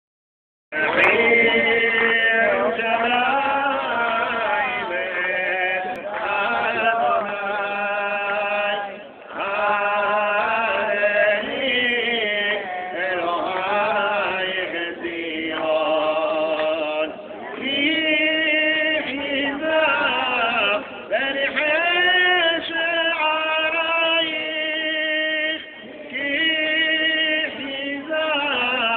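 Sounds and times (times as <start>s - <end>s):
person chanting slow melody: 0.8s - 28.9s.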